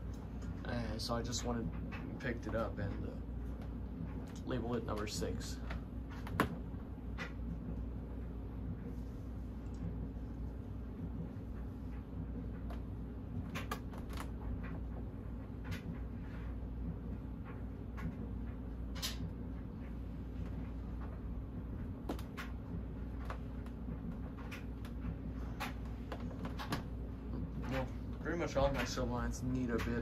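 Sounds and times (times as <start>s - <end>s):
ceiling fan motor hum: 0.0s - 30.0s.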